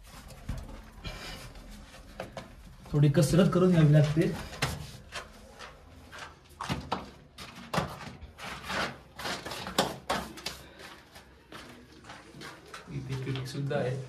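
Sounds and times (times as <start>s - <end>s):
footsteps and scrambling on stone: 0.0s - 14.0s.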